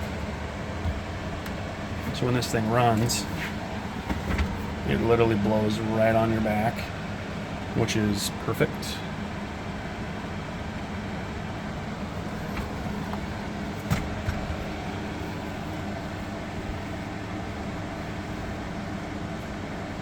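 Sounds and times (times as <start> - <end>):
air conditioner fan humming: 0.0 - 20.0.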